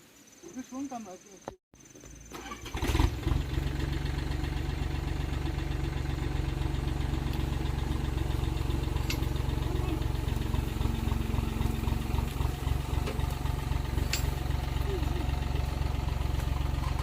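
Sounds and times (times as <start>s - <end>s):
tractor engine idling: 2.4s - 17.0s.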